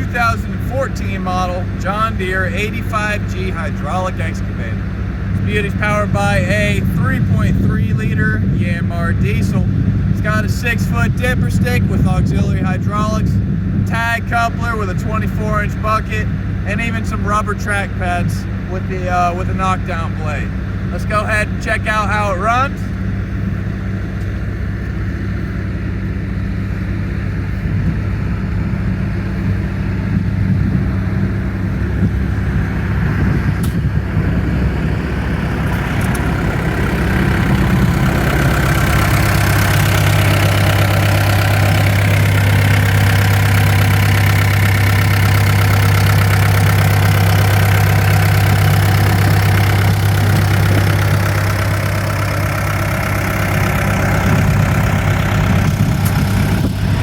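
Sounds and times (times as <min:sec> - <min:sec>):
excavator diesel engine idling: 0:00.0 - 0:57.0.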